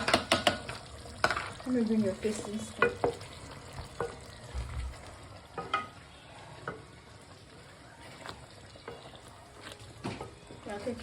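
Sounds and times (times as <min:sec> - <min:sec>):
stew sizzling in a pot: 0:00.0 - 0:11.0.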